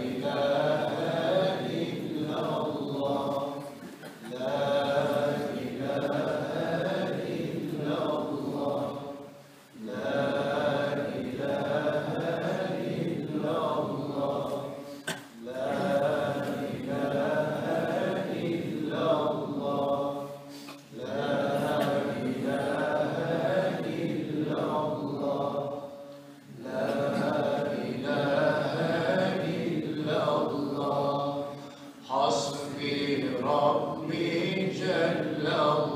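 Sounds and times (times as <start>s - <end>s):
men chanting in unison: 0.0s - 9.2s, 9.8s - 25.9s, 26.5s - 35.9s.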